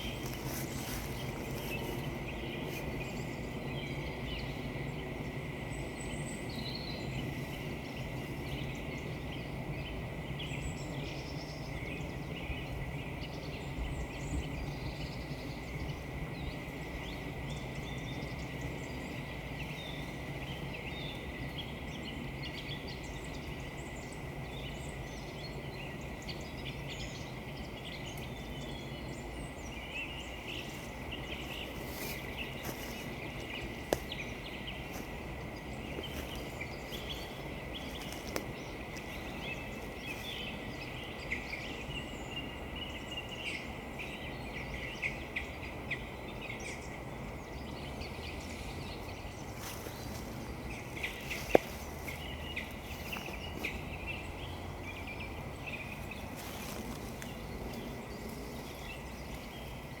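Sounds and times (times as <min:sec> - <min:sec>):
steady background hiss: 0:00.0 - 1:00.0
woodland birds chirping: 0:00.0 - 1:00.0.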